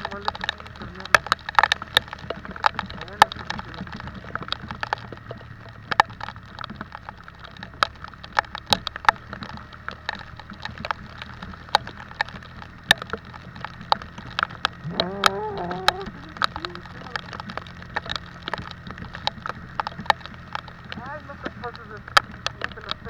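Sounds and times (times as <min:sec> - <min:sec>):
motorcycle engine running: 0:00.0 - 0:23.0
raindrops hitting microphone: 0:00.0 - 0:23.0.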